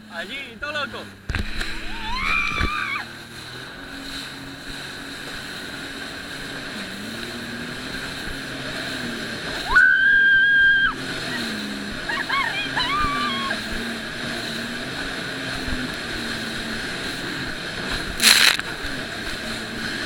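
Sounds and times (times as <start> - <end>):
jet ski engine running: 0.0 - 20.0
wind and water noise: 0.0 - 20.0.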